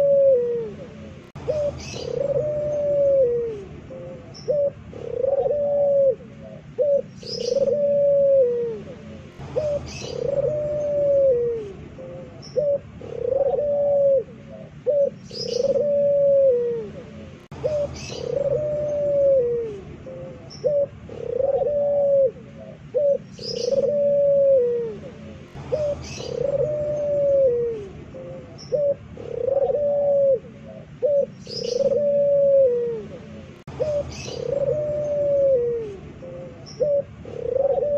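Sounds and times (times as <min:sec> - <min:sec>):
dove cooing: 0:00.0 - 0:37.9.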